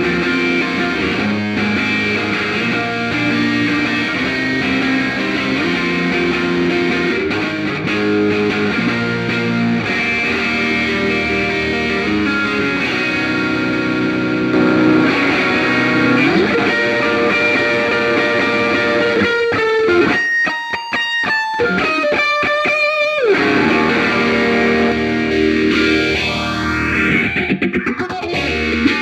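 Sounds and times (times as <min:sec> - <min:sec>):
distorted electric guitar chords: 0:00.0 - 0:29.0.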